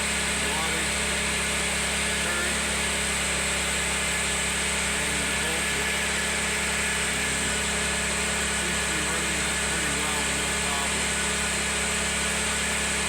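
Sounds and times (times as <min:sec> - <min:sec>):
small generator engine running: 0:00.0 - 0:13.0.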